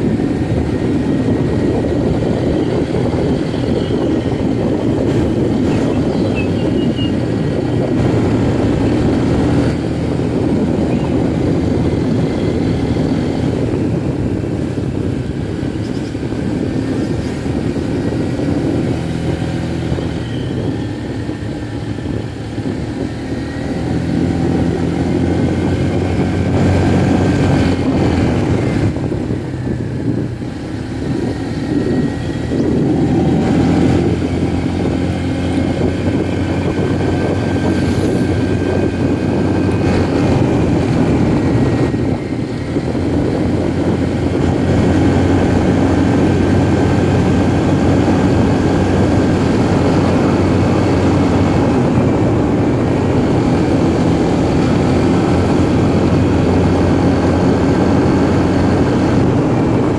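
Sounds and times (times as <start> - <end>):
motorbike engine running: 0.0 - 59.9
wind and road noise: 0.0 - 59.9.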